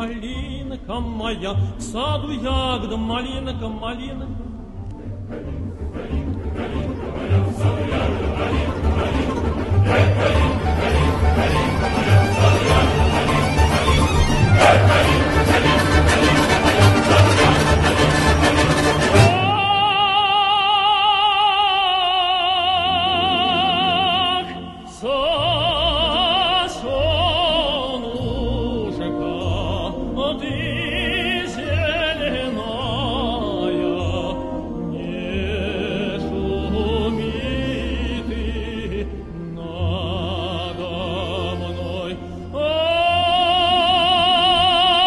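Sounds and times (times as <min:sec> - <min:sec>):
operatic singing: 0:00.0 - 0:45.0.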